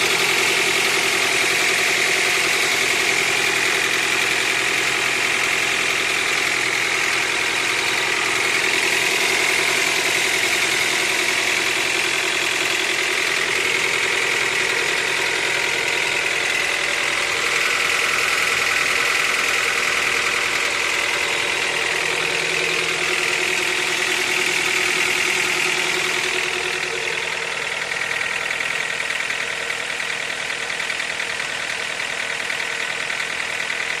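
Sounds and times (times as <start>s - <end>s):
car engine idling: 0.0s - 34.0s
fast even engine knocking: 0.0s - 34.0s.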